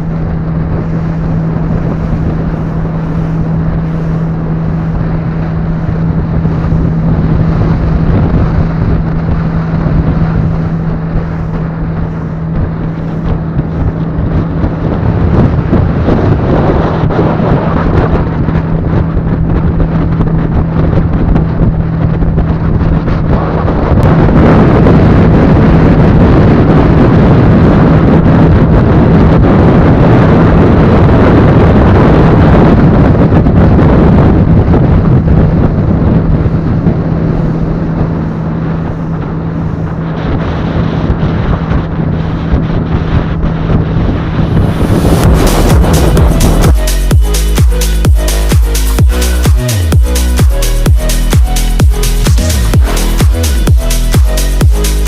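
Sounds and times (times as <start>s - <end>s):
boat engine humming: 0.0s - 55.0s
wind and water rushing: 0.0s - 55.0s.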